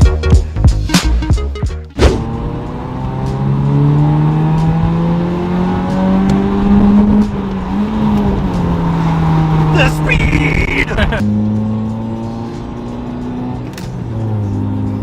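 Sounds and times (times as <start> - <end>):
car engine accelerating: 2.0 - 15.0.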